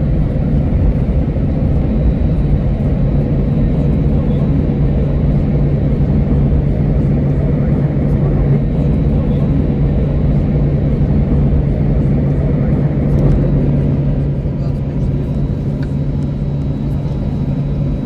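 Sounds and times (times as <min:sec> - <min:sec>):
airplane engine hum: 0:00.0 - 0:18.0
rolling rumble of taxiing jet: 0:00.0 - 0:18.0.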